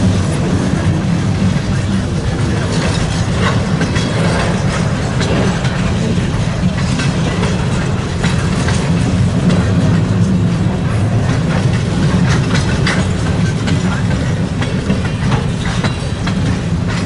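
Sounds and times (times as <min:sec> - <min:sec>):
wheels clicking over rail joints: 0:00.0 - 0:17.0.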